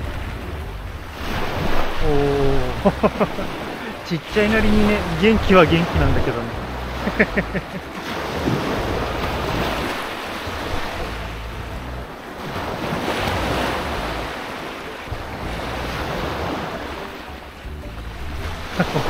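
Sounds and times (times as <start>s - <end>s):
waves washing ashore: 0.0s - 19.0s
wind rumbling on microphone: 0.0s - 19.0s.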